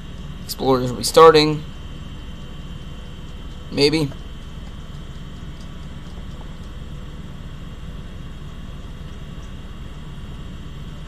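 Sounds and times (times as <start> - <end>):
computer hardware humming: 0.0 - 11.0.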